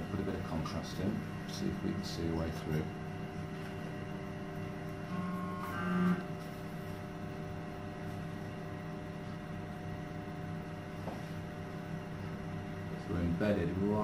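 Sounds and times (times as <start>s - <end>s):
medical equipment hum: 0.0s - 14.0s.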